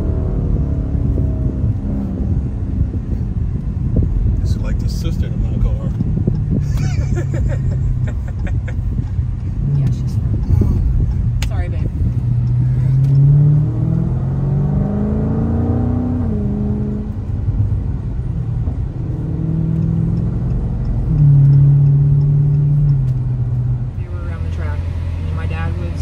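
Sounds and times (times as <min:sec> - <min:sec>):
car engine exhaust accelerating: 0:00.0 - 0:26.0.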